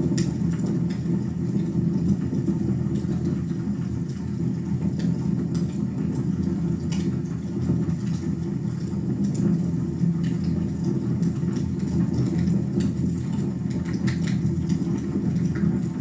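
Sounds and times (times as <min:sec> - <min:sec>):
low rumble of flames: 0:00.0 - 0:16.0.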